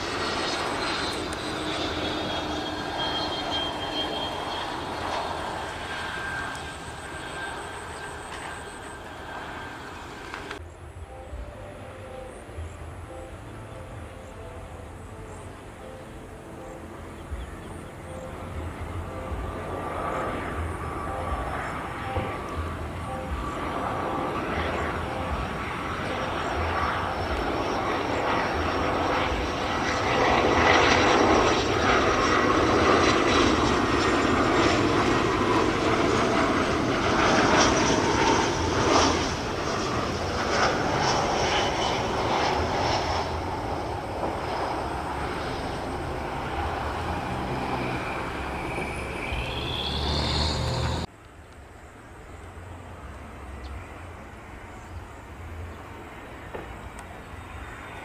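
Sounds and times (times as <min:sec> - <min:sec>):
faint distant jet noise: 0:00.0 - 0:58.0
jet rumble with high whine: 0:00.0 - 0:58.0.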